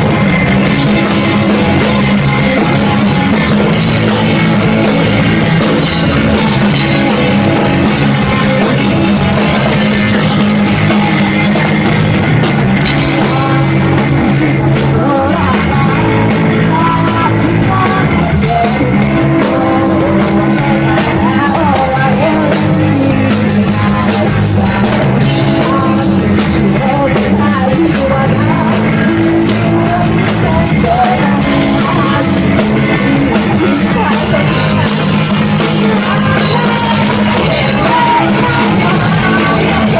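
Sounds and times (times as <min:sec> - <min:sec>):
drums: 0:00.0 - 0:39.9
electric bass: 0:00.0 - 0:39.9
electric guitar: 0:00.0 - 0:39.9
person singing: 0:00.0 - 0:39.9.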